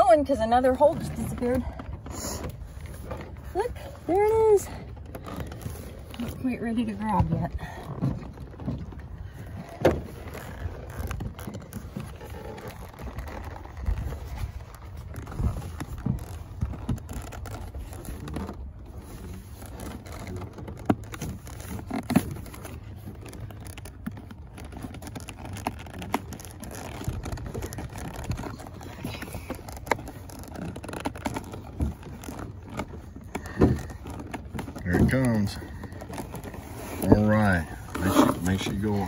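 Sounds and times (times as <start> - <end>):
leather rubbing and scraping: 0.0 - 39.0.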